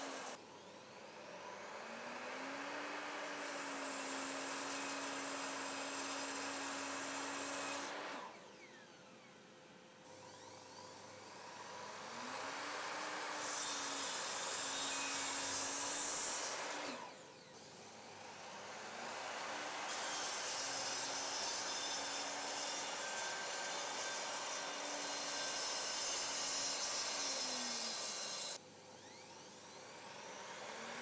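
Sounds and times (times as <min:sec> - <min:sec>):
mitre saw cutting chipboard: 0:00.0 - 0:00.4, 0:01.0 - 0:08.4, 0:10.2 - 0:31.0.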